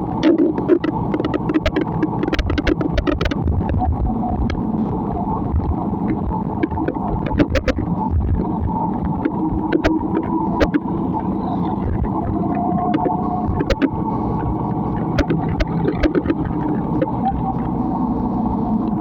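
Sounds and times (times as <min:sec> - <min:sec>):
vehicle rumble: 0:00.0 - 0:19.0
sharp ticks: 0:00.1 - 0:17.8.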